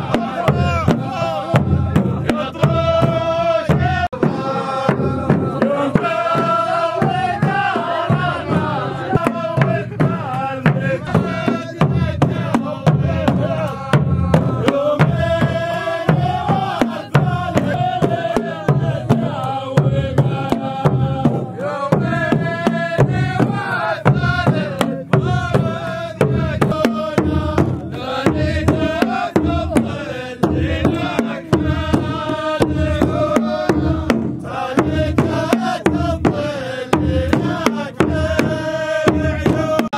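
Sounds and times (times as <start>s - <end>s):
frame drum beats: 0.0s - 39.9s
men chanting in unison: 0.0s - 39.9s.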